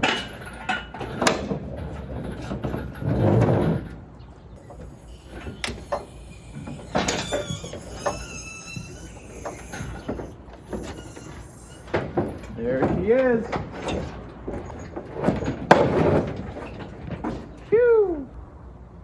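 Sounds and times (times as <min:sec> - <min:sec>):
metal clanks and knocks: 0:00.0 - 0:17.6.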